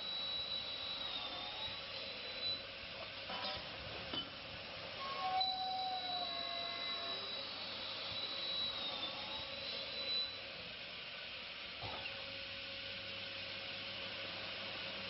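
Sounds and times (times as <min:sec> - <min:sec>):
machine hiss and whine: 0:00.0 - 0:15.0.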